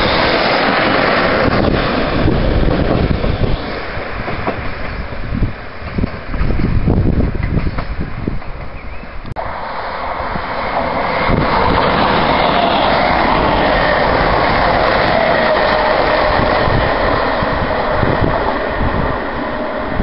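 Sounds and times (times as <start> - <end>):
train whine: 0.0 - 20.0
wheels rushing on rail: 0.0 - 20.0.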